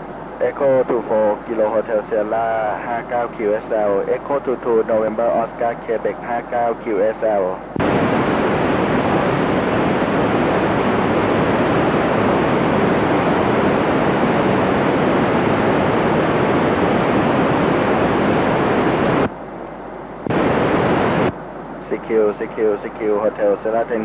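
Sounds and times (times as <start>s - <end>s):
radio receiver hiss: 0.0s - 24.0s.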